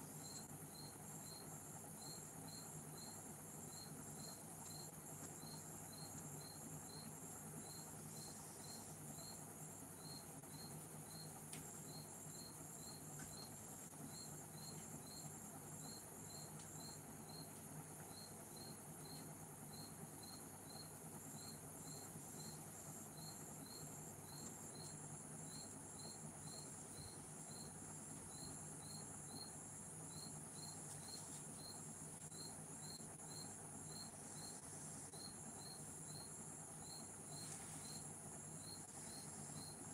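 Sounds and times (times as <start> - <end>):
insect chirping: 0.0 - 39.9
insect pulsing trill: 0.0 - 39.9
low steady hum: 0.0 - 39.9.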